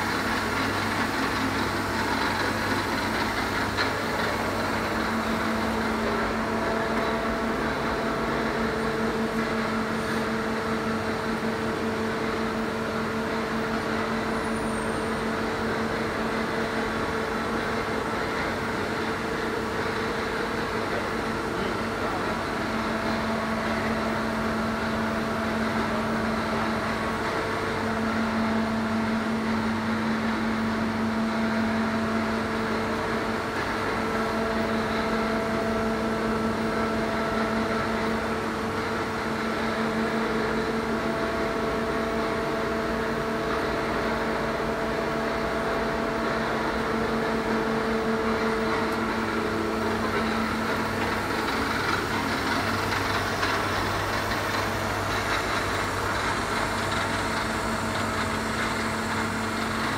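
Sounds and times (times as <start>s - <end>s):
milling machine hum: 0.0s - 59.9s.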